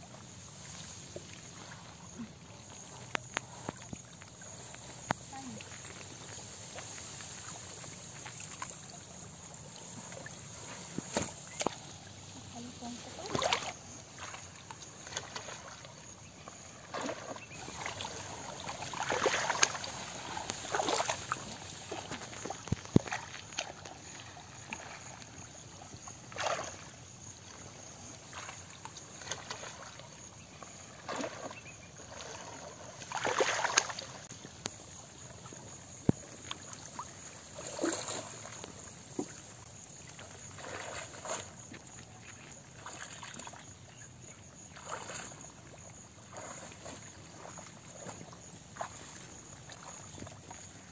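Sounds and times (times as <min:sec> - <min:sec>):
muddy water sloshing and splashing: 0:00.0 - 0:50.9.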